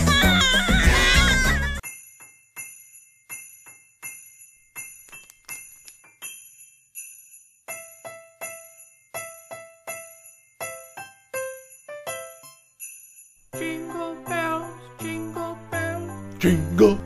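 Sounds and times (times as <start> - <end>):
jingle bells shaken on a beat: 0.0 - 17.0.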